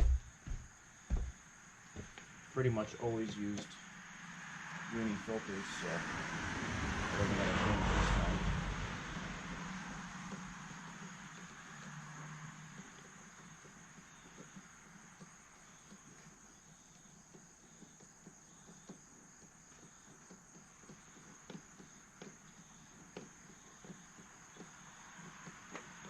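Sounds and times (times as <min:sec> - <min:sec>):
insect chirring: 0:00.0 - 0:06.1, 0:07.2 - 0:26.0.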